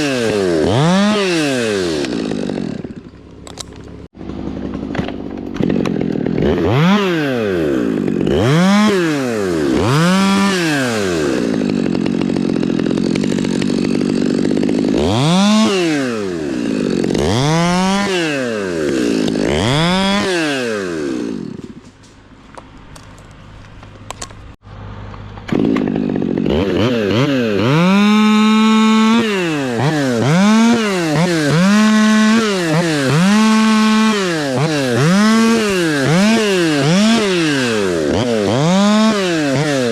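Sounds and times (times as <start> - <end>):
chainsaw revving and cutting wood: 0.0 - 23.3, 24.1 - 39.9.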